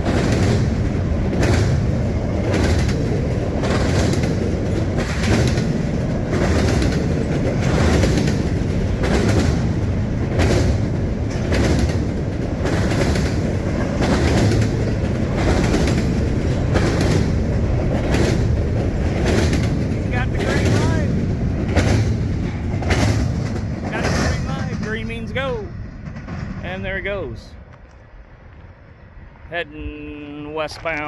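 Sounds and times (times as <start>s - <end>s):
wheels clacking over rail joints: 0.0s - 28.0s
freight train rumbling past: 0.0s - 31.0s.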